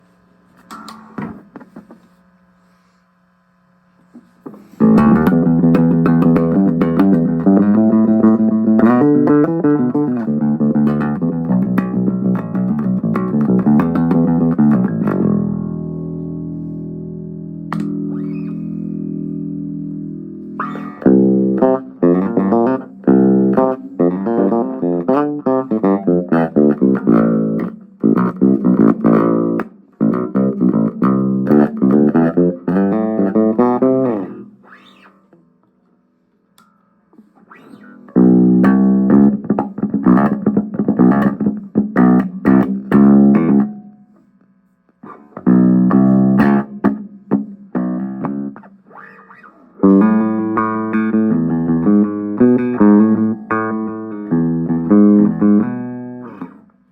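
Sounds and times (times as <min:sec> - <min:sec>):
electric bass guitar plucked notes: 0:04.8 - 0:35.1, 0:37.5 - 0:44.0, 0:45.0 - 0:56.7.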